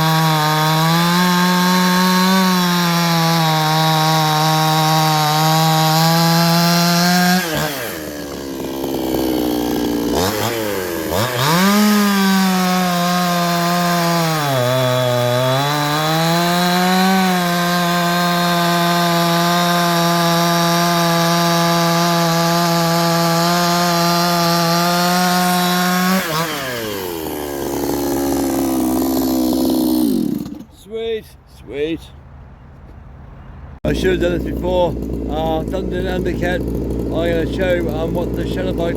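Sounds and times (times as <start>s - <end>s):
chainsaw running at full throttle: 0.0s - 30.7s, 33.9s - 38.9s.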